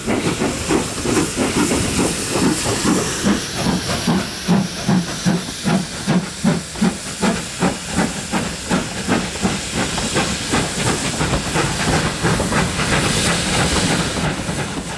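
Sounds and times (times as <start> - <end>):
steam hissing: 0.0 - 14.9
steam locomotive exhaust beats: 0.0 - 14.9.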